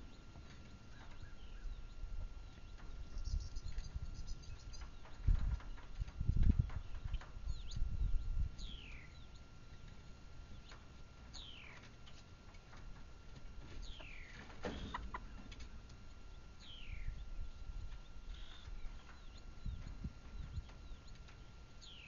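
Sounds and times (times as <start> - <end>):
hens peeping: 0.0 - 22.0
low microphone rumble: 0.0 - 22.0.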